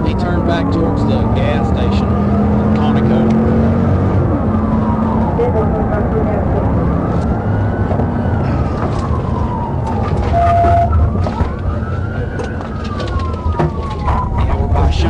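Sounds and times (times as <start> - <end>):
engine and road rumble: 0.0 - 15.0
police siren wailing: 0.0 - 15.0.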